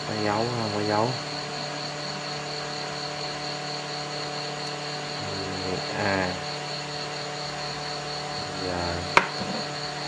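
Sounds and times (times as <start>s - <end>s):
mechanical hum: 0.0s - 10.0s
pulsing high whine: 0.0s - 10.0s.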